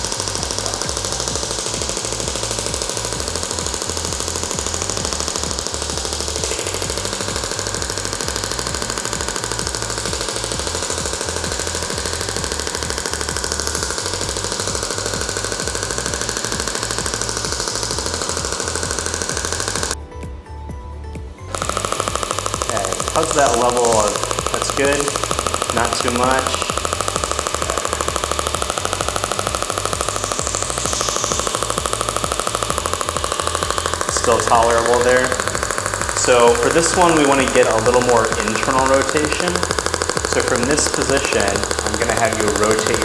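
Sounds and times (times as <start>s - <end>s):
rapid mechanical tapping pulses: 0.0s - 20.0s, 21.5s - 43.0s.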